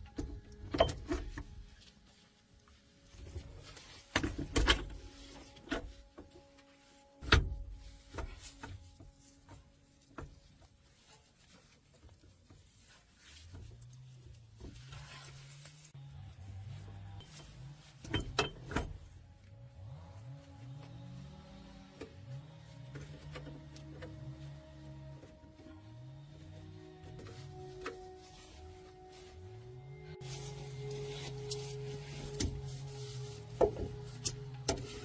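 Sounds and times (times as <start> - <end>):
faint background music: 0.0 - 35.0.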